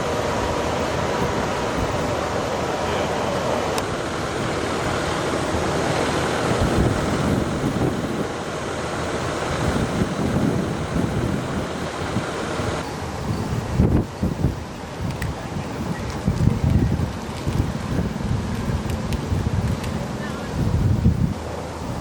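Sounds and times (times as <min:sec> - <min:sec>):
gusty wind buffeting microphone: 0:00.0 - 0:22.0
steady rushing noise: 0:00.0 - 0:22.0.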